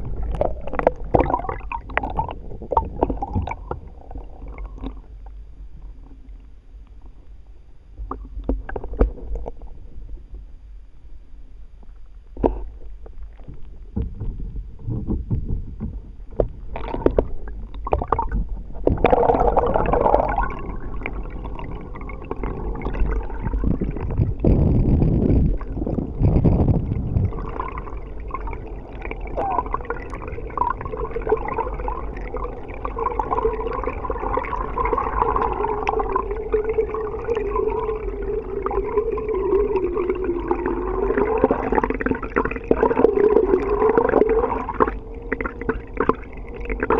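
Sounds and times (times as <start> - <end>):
water gurgling and sloshing: 0.0 - 46.9.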